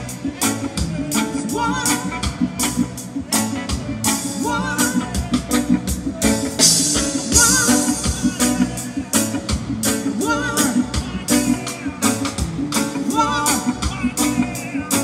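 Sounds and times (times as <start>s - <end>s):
person singing: 0.0s - 15.0s
reggae band playing: 0.0s - 15.0s.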